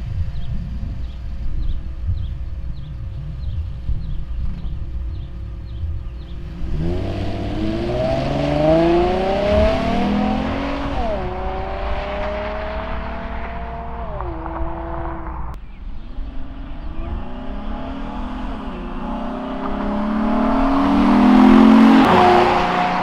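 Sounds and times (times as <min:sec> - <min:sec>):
car exhaust rumble and acceleration: 0:00.0 - 0:23.0.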